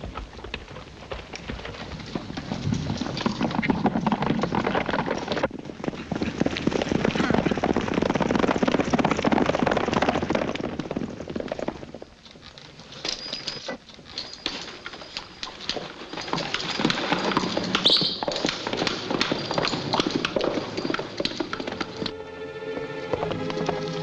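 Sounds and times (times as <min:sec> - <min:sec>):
horse hooves clip-clopping on dirt: 0:00.0 - 0:24.0.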